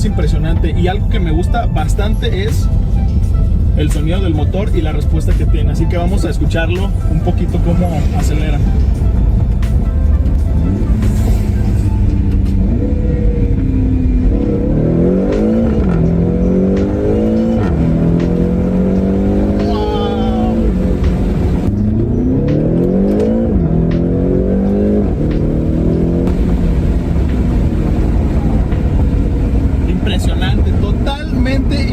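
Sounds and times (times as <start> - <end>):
car engine accelerating: 0.0 - 31.9.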